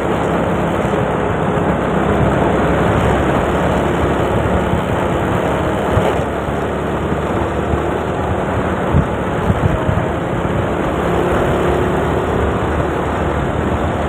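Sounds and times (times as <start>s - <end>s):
scooter engine running: 0.0s - 14.0s
wind on microphone: 0.0s - 14.0s.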